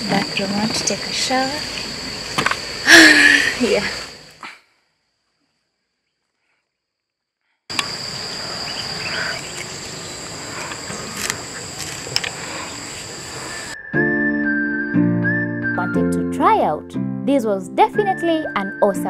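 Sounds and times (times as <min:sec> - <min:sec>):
insects singing: 0:00.0 - 0:05.1, 0:07.7 - 0:19.0.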